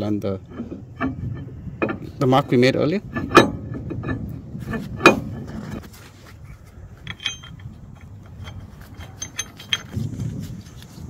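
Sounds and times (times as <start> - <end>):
metal clinking and rubbing: 0.0 - 11.0.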